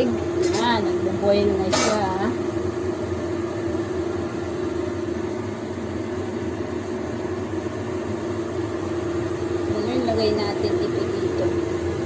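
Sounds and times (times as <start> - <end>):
constant low hum: 0.0 - 12.0
water boiling: 0.0 - 12.0.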